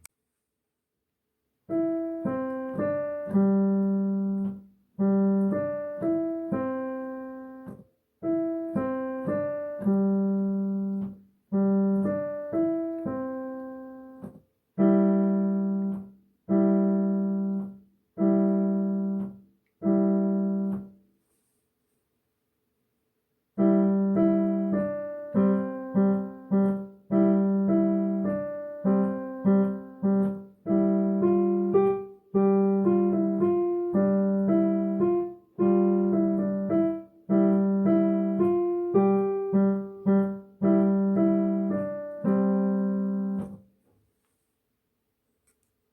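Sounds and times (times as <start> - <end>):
keyboard playing a children's song: 1.7 - 20.9, 23.6 - 43.6.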